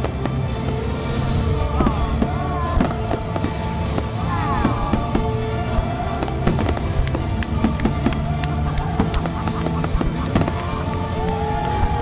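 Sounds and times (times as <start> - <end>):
fireworks bangs and crackles: 0.0 - 12.0
music over loudspeakers: 0.0 - 12.0.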